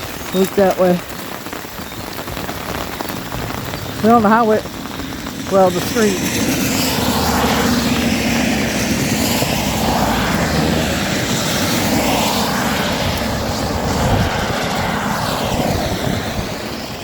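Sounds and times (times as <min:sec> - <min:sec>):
rushing engine noise: 0:03.3 - 0:17.0.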